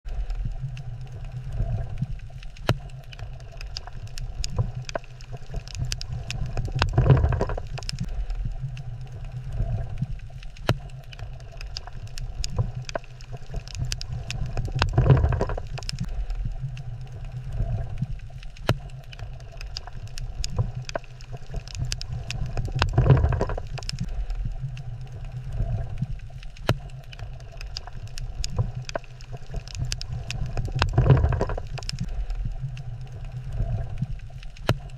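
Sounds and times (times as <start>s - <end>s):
low rumble of moving water: 0.0s - 34.9s
small sharp clicks and crackles: 0.1s - 34.9s.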